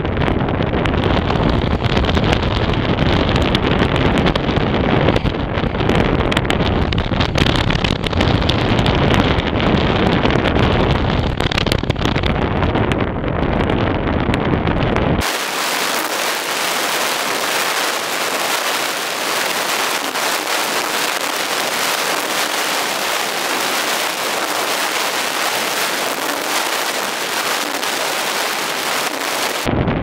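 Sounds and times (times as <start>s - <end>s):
wind noise on microphone: 0.0s - 30.0s.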